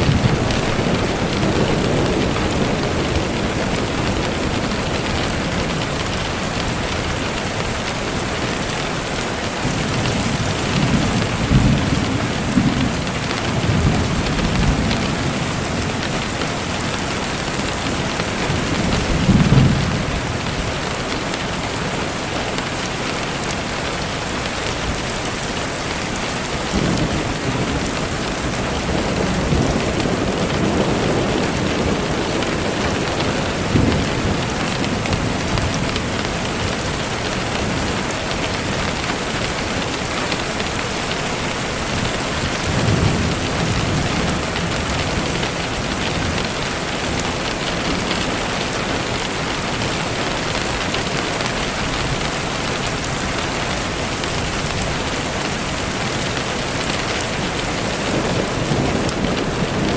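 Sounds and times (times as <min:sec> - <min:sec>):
thunder rumbling: 0:00.0 - 0:22.8, 0:23.4 - 0:59.9
steady rain falling: 0:00.0 - 0:59.9.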